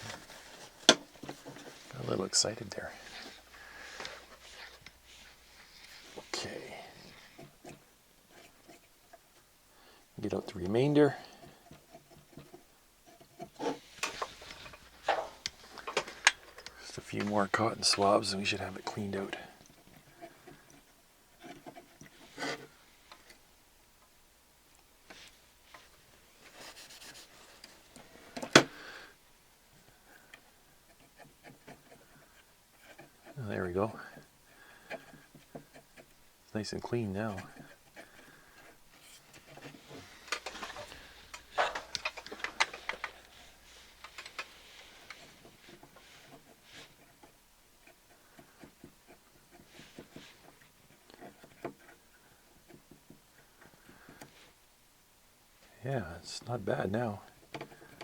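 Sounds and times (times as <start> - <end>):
cotton swabs rubbing and scraping: 0.0 - 9.4, 10.2 - 23.5, 25.0 - 54.7.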